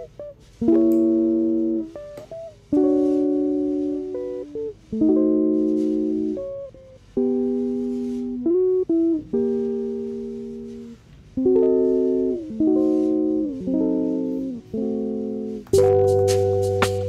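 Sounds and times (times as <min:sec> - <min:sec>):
guitar playing slow chords: 0:00.0 - 0:17.0.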